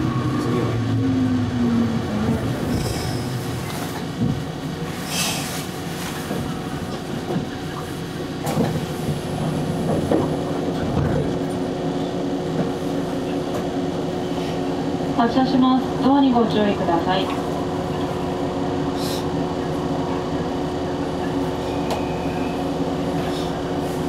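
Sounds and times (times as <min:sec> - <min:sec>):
electric train rumbling: 0:00.0 - 0:24.0
steady train hum: 0:00.0 - 0:24.0.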